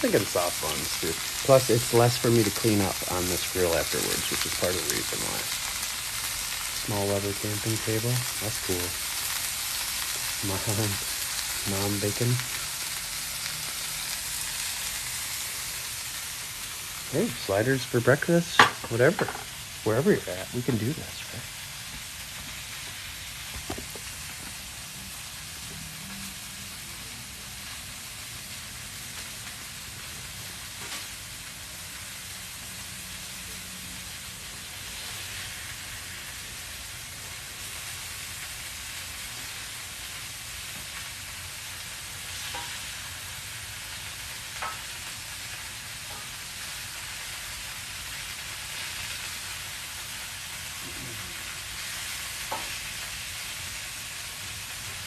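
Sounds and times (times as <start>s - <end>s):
food sizzling on a griddle: 0.0s - 55.0s.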